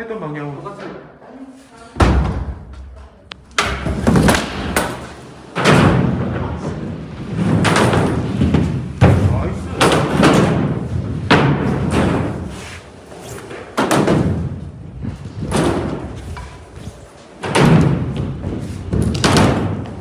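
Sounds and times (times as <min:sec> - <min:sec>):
skateboard wheels rolling on plywood: 0:03.6 - 0:20.0.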